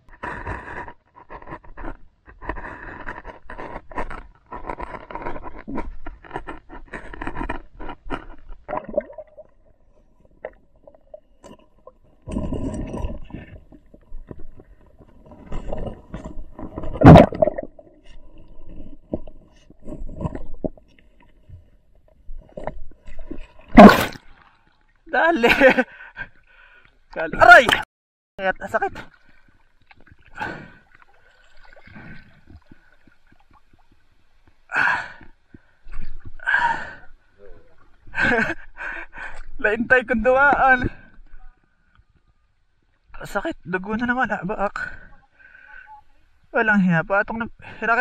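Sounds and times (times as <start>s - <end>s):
underwater scraping and knocking: 0.0s - 25.1s, 28.7s - 46.0s.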